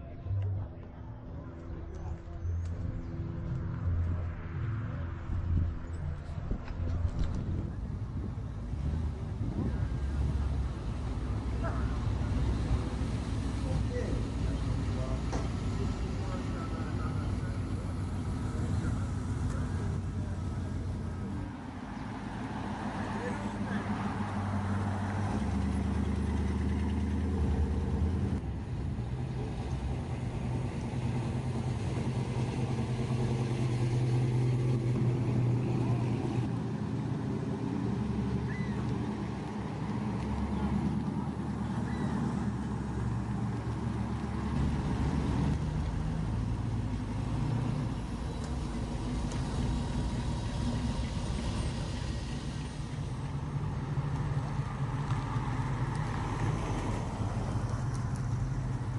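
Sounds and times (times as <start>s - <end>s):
car engines running: 0.0s - 58.9s.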